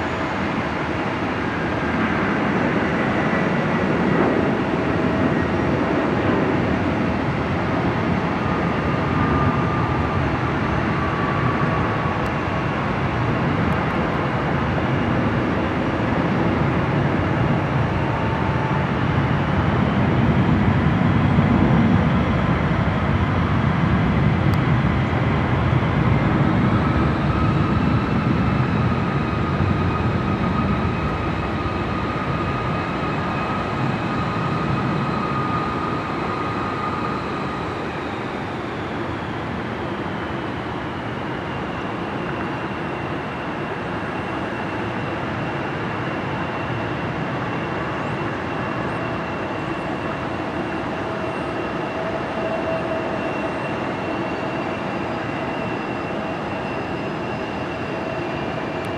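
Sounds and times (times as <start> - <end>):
high jet engine whines: 0.0 - 58.9
jet engines low rumble: 0.0 - 58.9.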